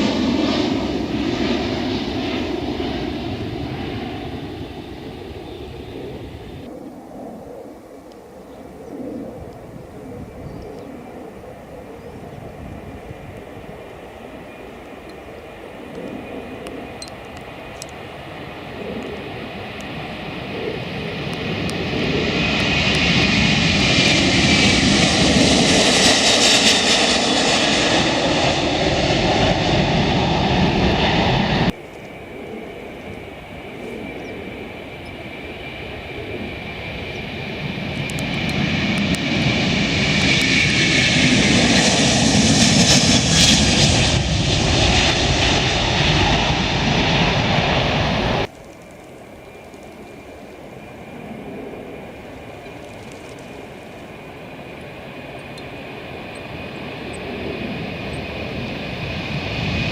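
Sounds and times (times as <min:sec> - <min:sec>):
jet airliner taking off: 0:00.0 - 0:07.6, 0:08.8 - 0:59.9.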